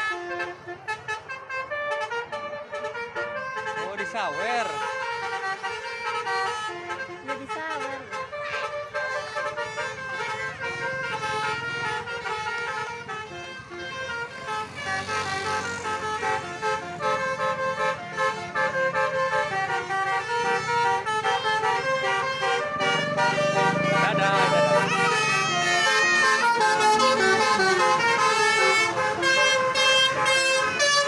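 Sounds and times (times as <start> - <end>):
bus musical horn tune: 0.0 - 31.0.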